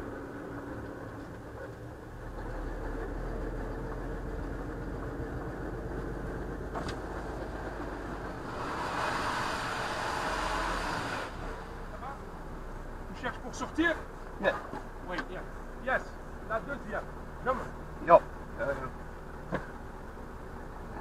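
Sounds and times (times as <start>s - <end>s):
lorry engine running: 0.0s - 21.0s
wet road noise: 0.0s - 21.0s.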